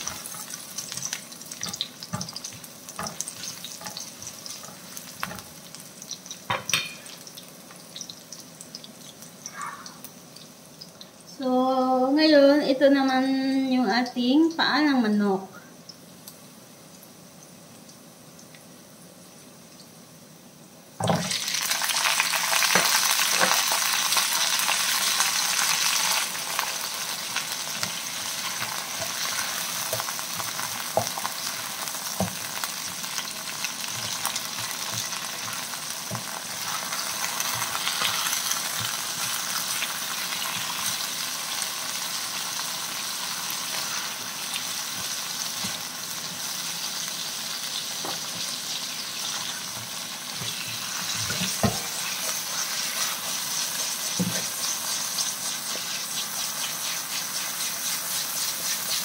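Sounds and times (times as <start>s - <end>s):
food sizzling in hot oil: 0.0s - 20.2s, 20.8s - 59.0s.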